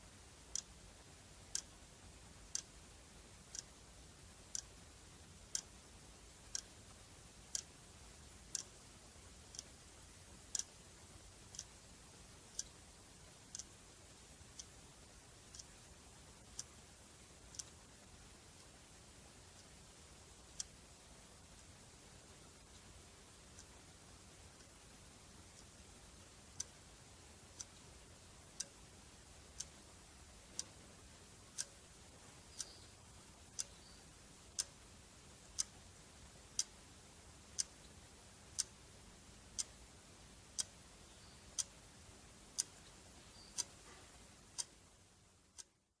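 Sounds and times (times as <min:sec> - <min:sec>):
clock ticking: 0:00.0 - 0:46.0
faint steady hiss: 0:00.0 - 0:46.0.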